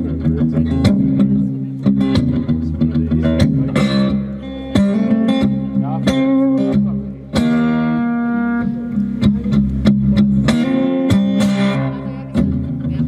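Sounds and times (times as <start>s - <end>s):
acoustic guitar strummed chords: 0.0s - 13.0s.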